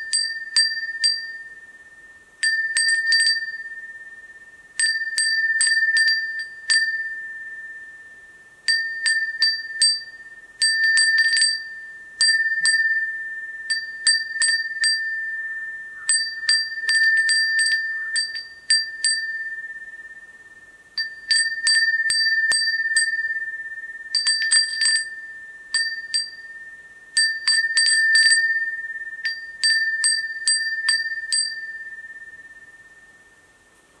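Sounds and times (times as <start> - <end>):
glass wind chime ringing: 0.0 - 33.7.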